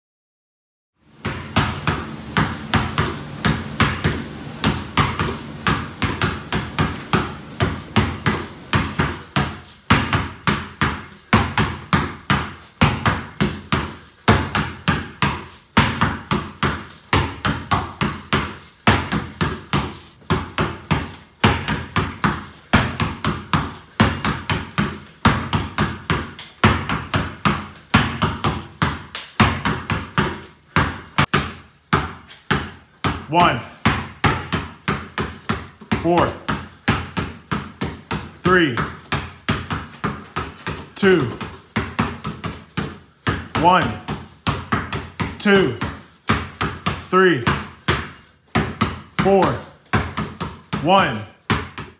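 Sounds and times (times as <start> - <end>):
basketball dribbling on concrete: 1.0 - 51.9.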